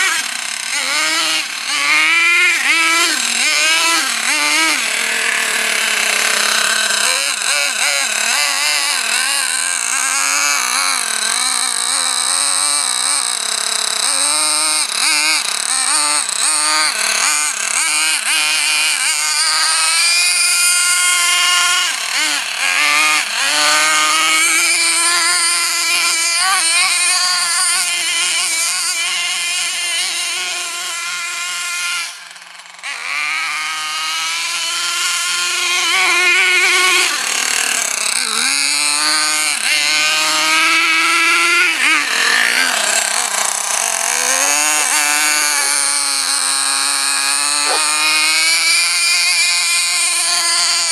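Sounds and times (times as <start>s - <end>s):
rc truck nitro engine revving: 0.0s - 50.9s.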